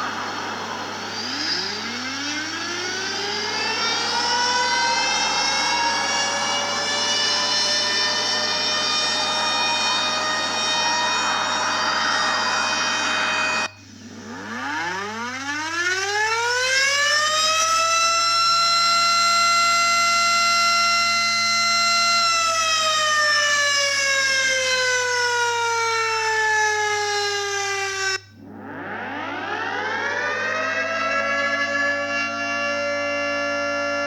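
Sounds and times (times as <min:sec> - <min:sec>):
warning siren winding: 0:00.0 - 0:13.7, 0:14.4 - 0:34.0.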